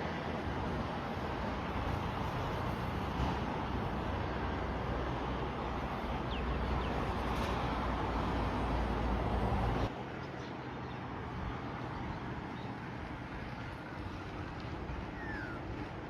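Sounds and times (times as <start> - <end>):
steady background noise: 0.0 - 16.0
vehicle rumble with low drone: 0.0 - 16.0.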